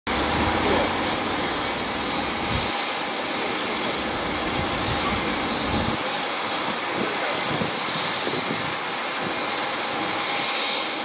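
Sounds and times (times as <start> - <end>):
jet engines roaring: 0.1 - 11.0.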